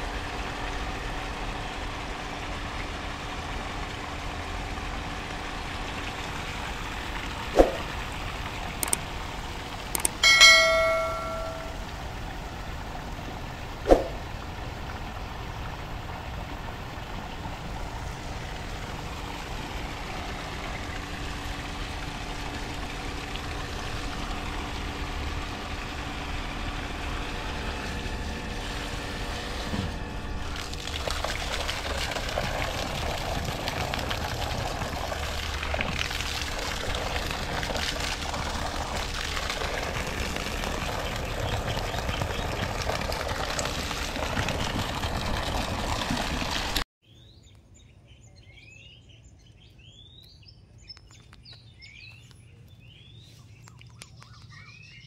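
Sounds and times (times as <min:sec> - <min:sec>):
water pump humming: 0:00.0 - 0:46.8
water splashing and gushing: 0:00.0 - 0:46.8.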